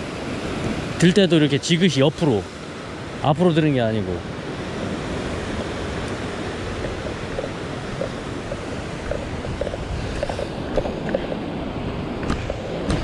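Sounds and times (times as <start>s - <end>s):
waves breaking over rocks: 0.0s - 13.0s.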